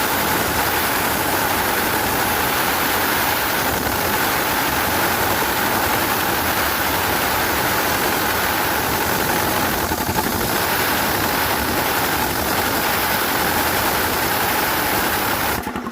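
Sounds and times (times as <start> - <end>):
engine running loudly: 0.0 - 15.9.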